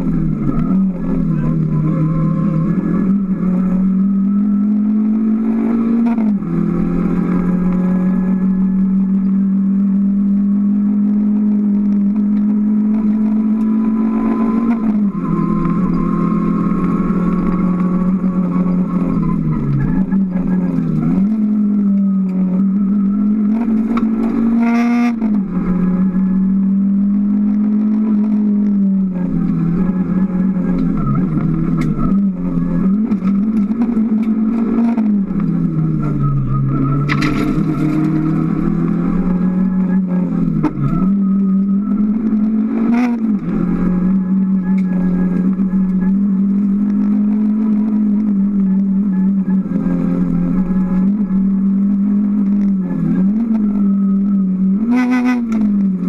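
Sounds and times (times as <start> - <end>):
rally car engine at high revs: 0.0 - 56.0.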